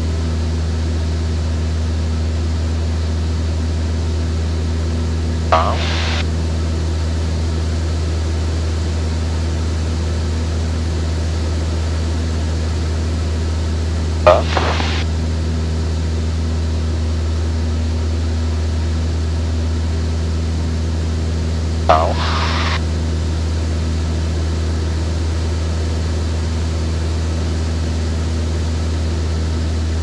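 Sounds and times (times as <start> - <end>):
aircraft engine and propeller droning: 0.0 - 30.0.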